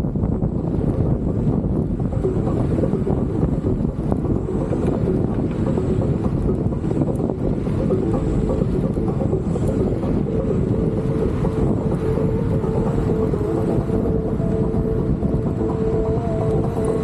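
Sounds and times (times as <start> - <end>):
steady tone: 0.0 - 17.0
wind buffeting microphone: 0.0 - 17.0.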